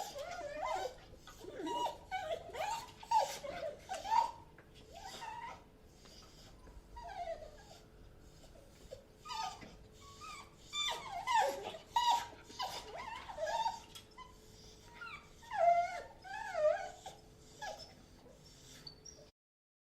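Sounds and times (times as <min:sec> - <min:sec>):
dogs whining: 0:00.0 - 0:19.3.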